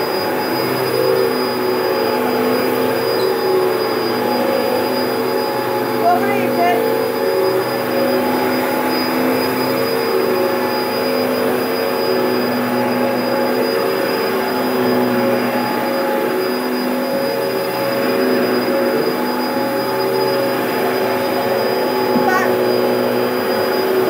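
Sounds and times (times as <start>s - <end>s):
vacuum cleaner whining: 0.0s - 24.0s.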